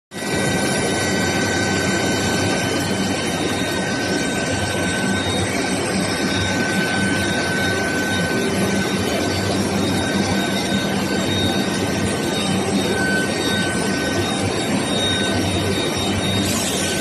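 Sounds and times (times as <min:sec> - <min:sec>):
high-pitched machine whine: 0:00.1 - 0:17.0.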